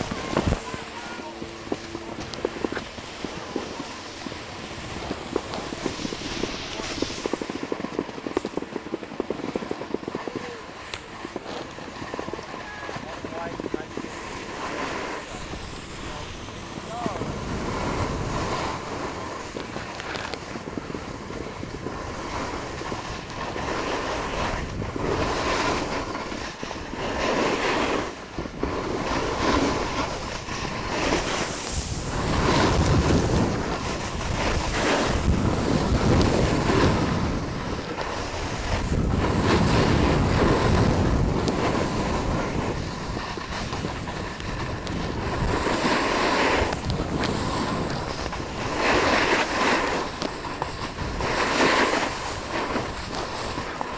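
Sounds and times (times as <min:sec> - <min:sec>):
snowboard scraping over snow: 0:00.0 - 0:53.9
wind on microphone: 0:00.0 - 0:53.9.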